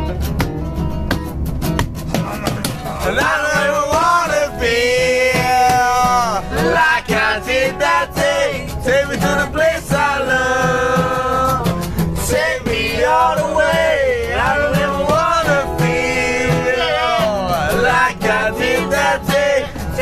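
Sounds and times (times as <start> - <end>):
acoustic guitar strumming: 0.0 - 20.0
man singing: 2.3 - 20.0.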